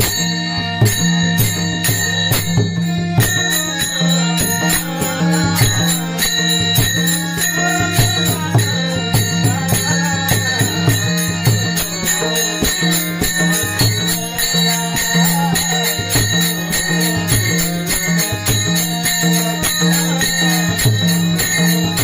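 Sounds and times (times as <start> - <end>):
hand cymbals jingling: 0.0 - 22.0
harmonium drone: 0.0 - 22.0.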